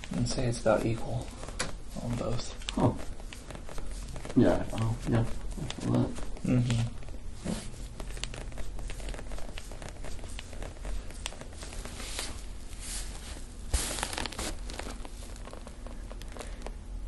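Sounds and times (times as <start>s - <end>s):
fingers rubbing hair and skin: 0.0s - 16.8s.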